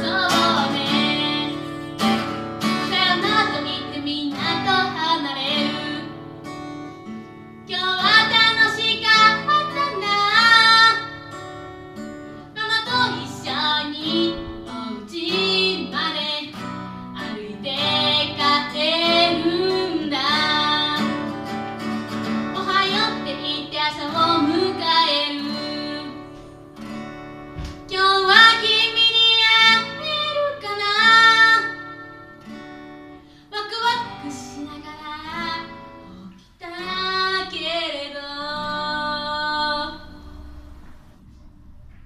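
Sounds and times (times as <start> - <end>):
woman singing: 0.0 - 6.2, 7.6 - 11.5, 12.4 - 21.8, 22.4 - 26.4, 27.8 - 32.4, 33.5 - 40.7
acoustic guitar: 0.0 - 42.0.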